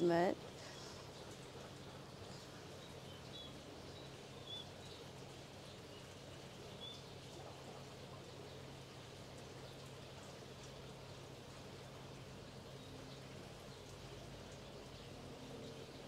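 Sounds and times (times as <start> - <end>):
soft hiss: 0.0 - 15.8.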